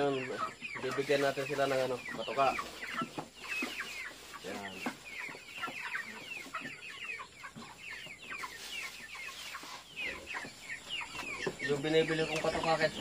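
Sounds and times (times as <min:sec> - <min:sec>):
chicks peeping and chirping: 0:00.0 - 0:13.0.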